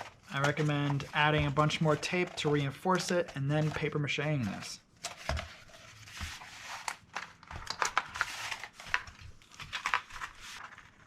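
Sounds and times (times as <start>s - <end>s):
cardboard crinkling and rustling: 0.0s - 11.0s.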